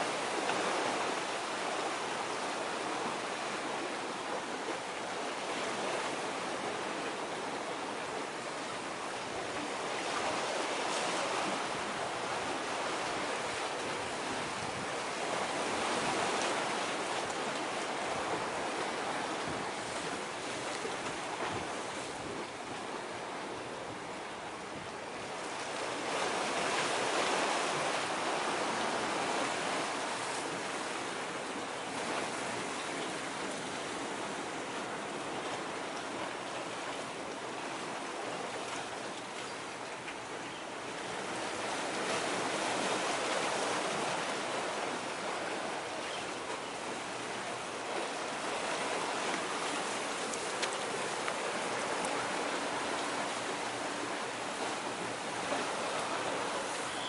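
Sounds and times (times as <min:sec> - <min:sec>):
sea waves washing on shore: 0:00.0 - 0:57.0.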